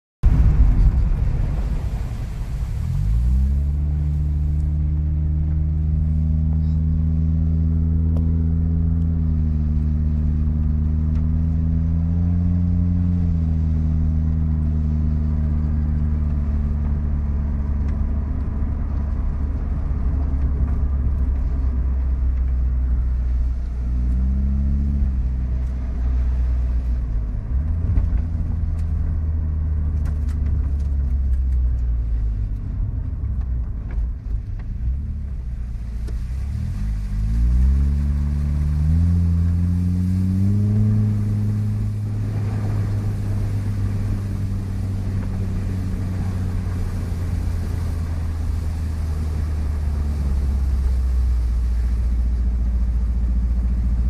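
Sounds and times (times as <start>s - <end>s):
car engine running: 0.2s - 54.0s
rough noisy rumble: 0.2s - 54.0s.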